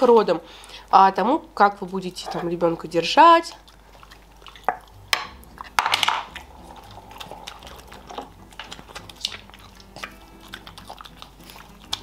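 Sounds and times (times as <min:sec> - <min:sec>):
wet chewing and mouth clicks: 0:01.7 - 0:12.0.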